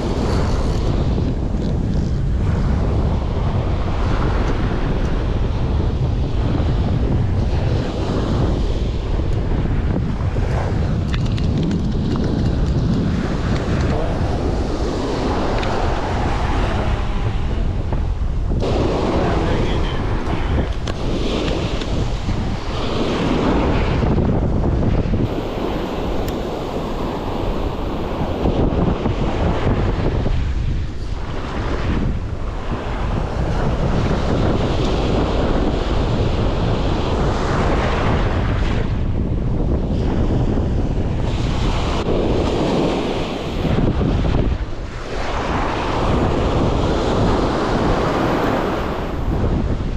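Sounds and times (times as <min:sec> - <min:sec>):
wind buffeting microphone: 0:00.0 - 0:49.9
ocean surf breaking: 0:02.4 - 0:38.8, 0:39.8 - 0:49.9.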